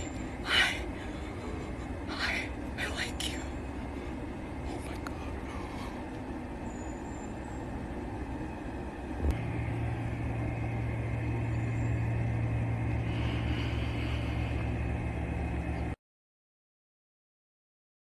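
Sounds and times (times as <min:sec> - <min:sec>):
dull rumble: 0:00.0 - 0:16.0
low mechanical hum: 0:00.0 - 0:16.0.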